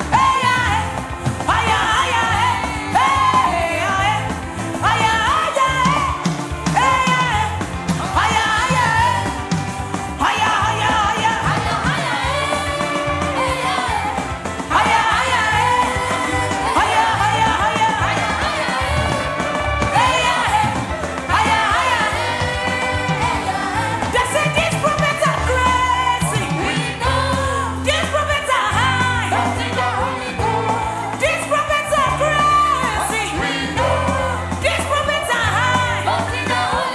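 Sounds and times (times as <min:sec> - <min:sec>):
instrumental backing with bass: 0:00.0 - 0:36.9
voices singing worship song: 0:00.0 - 0:36.9.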